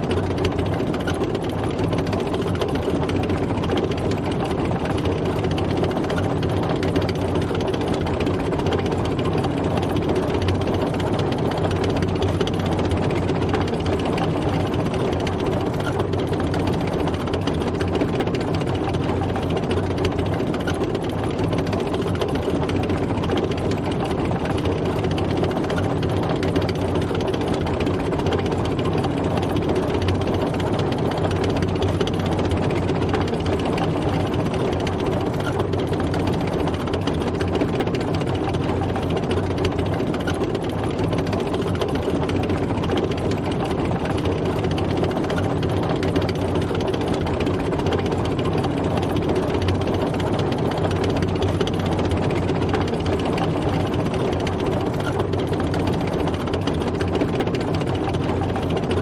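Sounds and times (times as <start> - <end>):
heavy engine running: 0.0 - 59.0.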